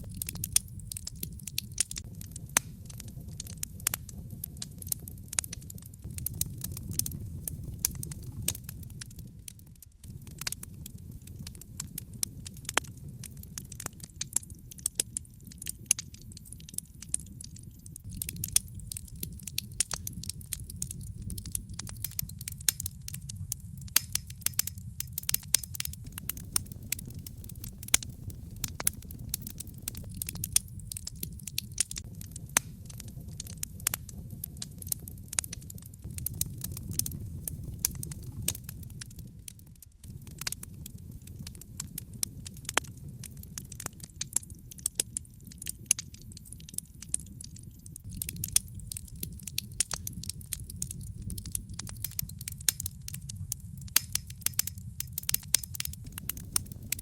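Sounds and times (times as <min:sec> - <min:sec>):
low rumble of flames: 0:00.0 - 0:57.0
wood fire pops and snaps: 0:00.0 - 0:57.0.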